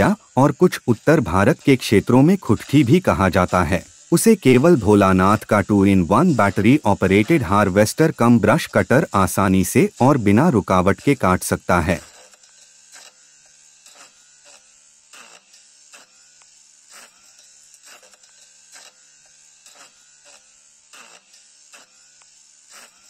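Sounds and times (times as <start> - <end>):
electric motor buzzing: 0.0 - 23.0.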